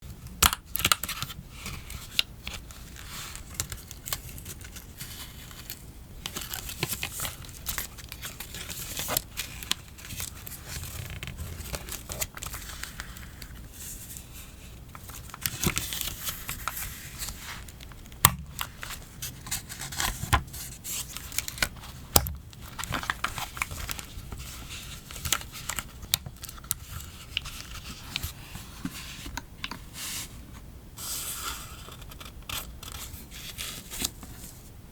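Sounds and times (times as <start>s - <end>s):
paper rustling and crinkling: 1.0s - 34.7s.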